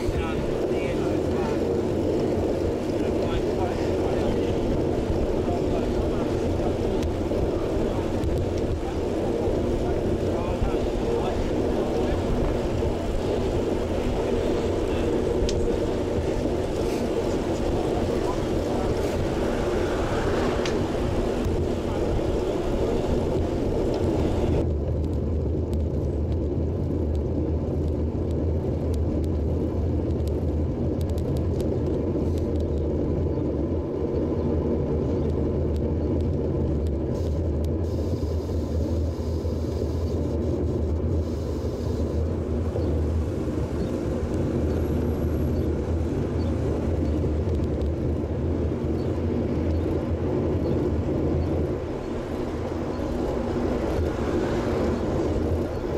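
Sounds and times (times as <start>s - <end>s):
tyre and road noise: 0.0s - 55.9s
wind rumble on microphone: 0.0s - 55.9s.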